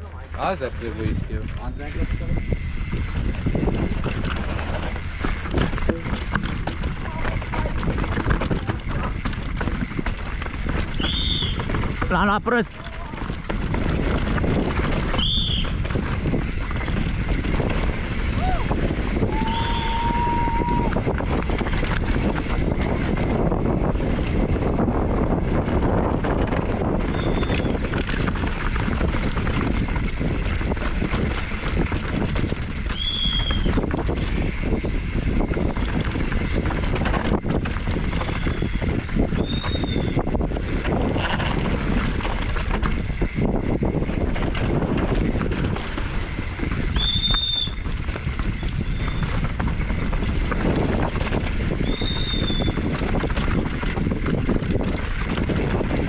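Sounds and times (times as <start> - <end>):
bike rattling: 0.0 - 56.0
tyres rolling on dirt: 0.0 - 56.0
wind buffeting microphone: 0.0 - 56.0.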